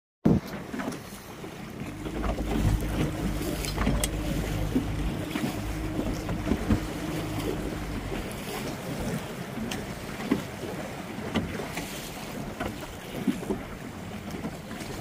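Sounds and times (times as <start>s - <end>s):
motorboat engine running: 0.3s - 15.0s
water splashing against hull: 0.3s - 15.0s.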